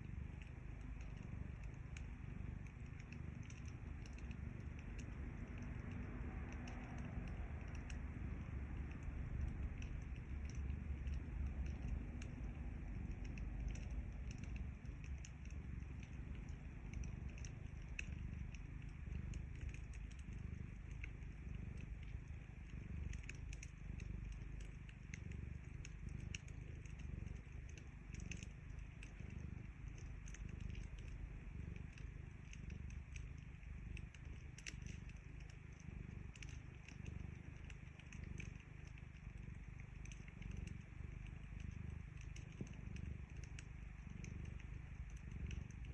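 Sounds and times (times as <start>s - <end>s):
cat purring: 0.0s - 45.9s
wood fire crackling: 0.0s - 45.9s.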